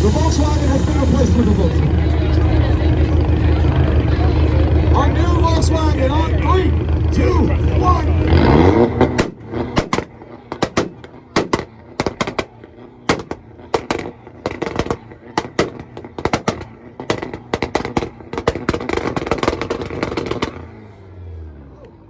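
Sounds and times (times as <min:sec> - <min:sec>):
exhaust pops and bangs: 0:00.0 - 0:21.0
engine on rev limiter: 0:00.0 - 0:22.0.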